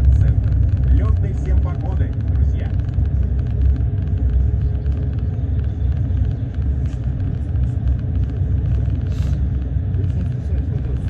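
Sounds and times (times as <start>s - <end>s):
bus rumbling in motion: 0.0s - 11.0s
faint steady whine: 0.0s - 11.0s.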